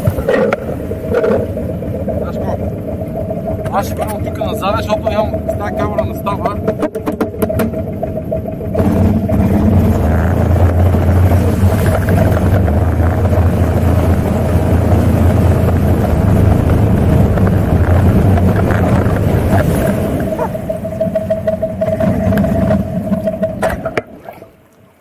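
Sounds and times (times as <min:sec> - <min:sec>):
quad engine pulling under load: 0:00.0 - 0:24.2
water splashing and churning: 0:00.0 - 0:25.0.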